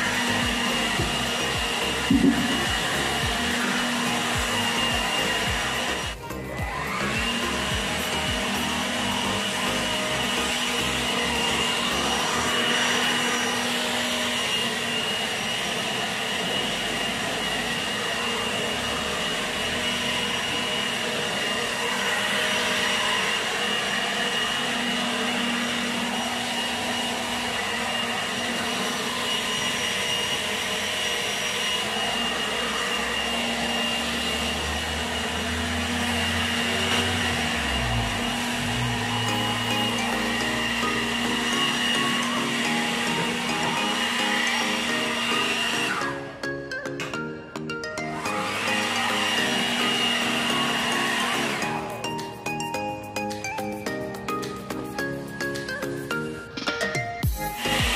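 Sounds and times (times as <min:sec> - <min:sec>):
leaf blower running: 0:00.0 - 0:56.6, 0:57.2 - 0:57.9.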